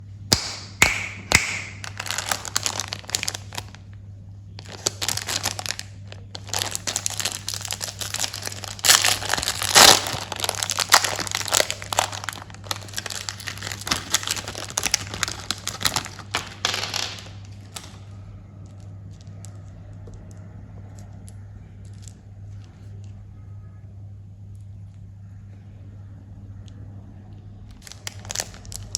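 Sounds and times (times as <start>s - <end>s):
low steady hum: 0.0s - 28.9s
candy wrappers crinkling: 0.9s - 23.2s, 27.8s - 28.9s.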